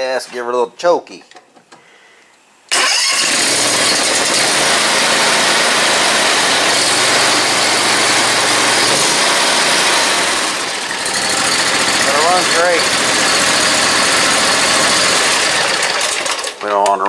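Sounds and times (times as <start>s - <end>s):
mower engine starting and running: 2.7s - 17.0s.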